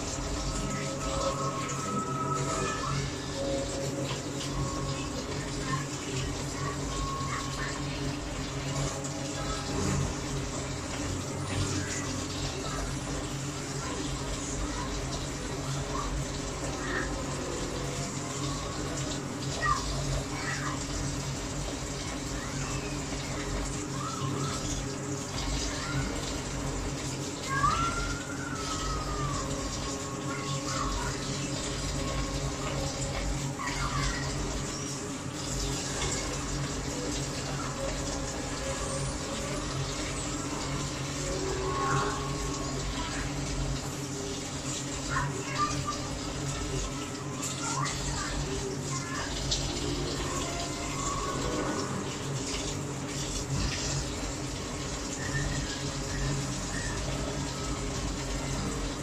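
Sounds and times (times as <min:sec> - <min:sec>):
broth bubbling in a pot: 0:00.0 - 0:59.0.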